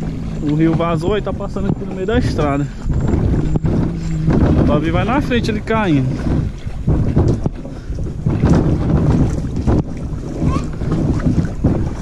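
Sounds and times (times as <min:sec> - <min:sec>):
water sloshing from wading: 0:00.0 - 0:12.0
wind buffeting microphone: 0:00.0 - 0:12.0.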